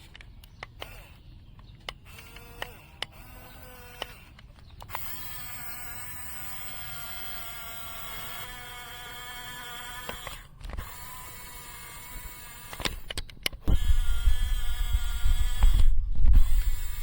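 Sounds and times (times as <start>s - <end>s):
motor clicks: 0.0s - 17.0s
small electric motor whining: 0.0s - 17.0s.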